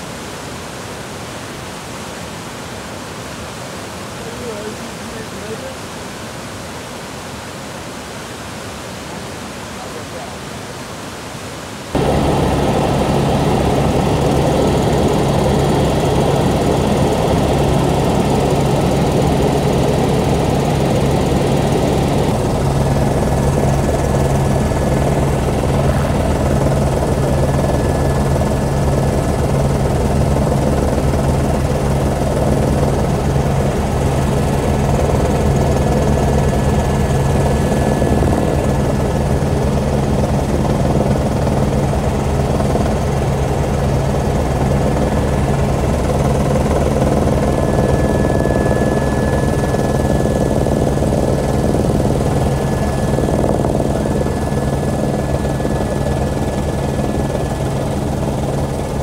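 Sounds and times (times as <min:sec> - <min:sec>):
helicopter rotor and engine drone: 0:11.8 - 0:59.0.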